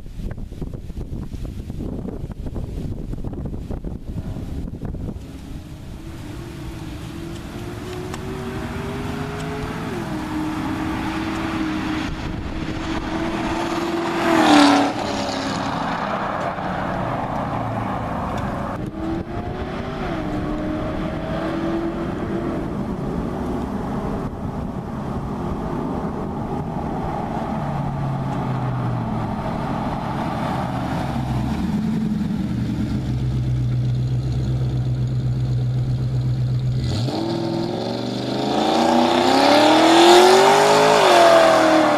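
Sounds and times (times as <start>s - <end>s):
car engine exhaust accelerating: 0.3s - 41.9s.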